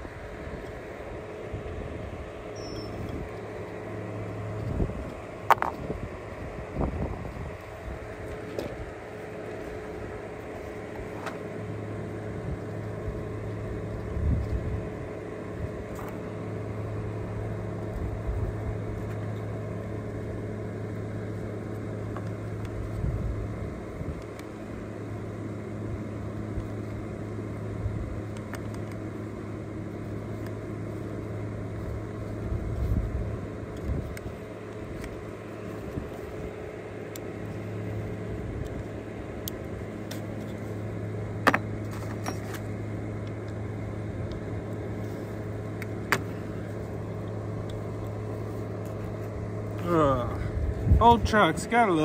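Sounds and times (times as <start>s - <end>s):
motor humming: 0.0s - 52.0s.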